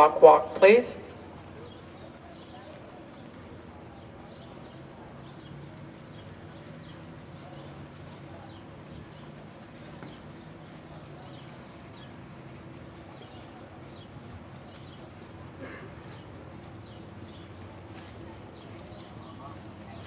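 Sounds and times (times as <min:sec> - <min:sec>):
hoofbeats on soft dirt: 0:01.1 - 0:20.0.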